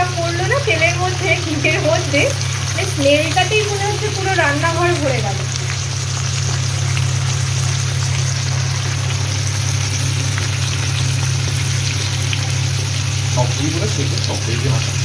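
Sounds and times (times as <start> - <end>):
chicken sizzling in oil: 0.0 - 15.0
steady low hum: 0.0 - 15.0.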